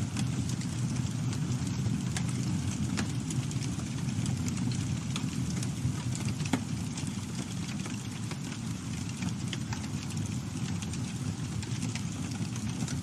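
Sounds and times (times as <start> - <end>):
burning wood crackling and popping: 0.0 - 13.0
low rumble of flames: 0.0 - 13.0.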